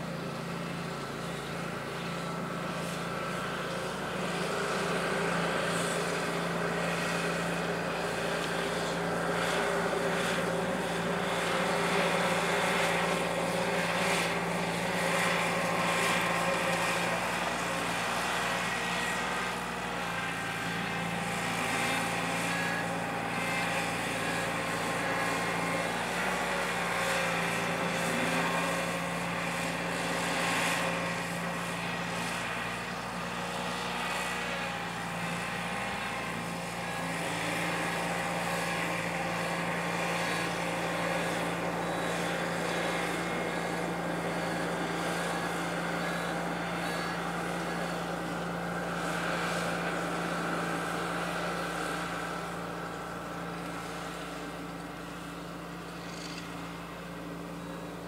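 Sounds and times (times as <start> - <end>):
road roller engine running: 0.0 - 58.0.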